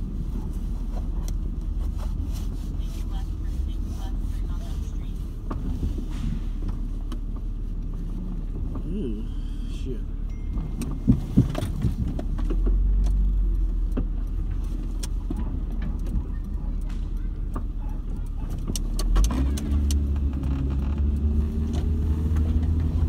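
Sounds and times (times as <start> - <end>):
car engine: 0.0 - 23.0
road rumble: 0.0 - 23.0.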